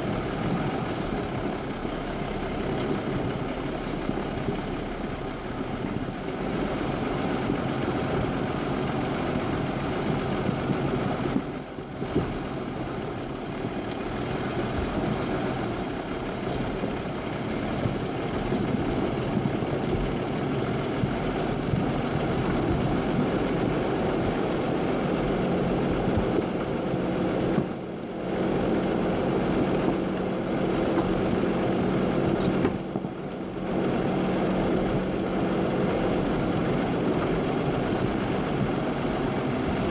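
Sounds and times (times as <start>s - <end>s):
engine hum: 0.0s - 39.9s
vehicle engine and road rumble: 0.0s - 39.9s.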